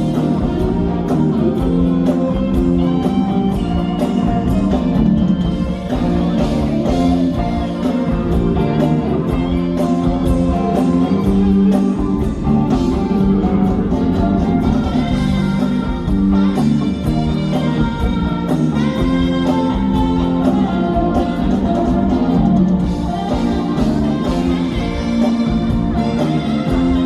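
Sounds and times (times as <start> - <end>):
electric guitar: 0.0 - 27.0
live rock band playing: 0.0 - 27.0
steady drum beat: 0.0 - 27.0.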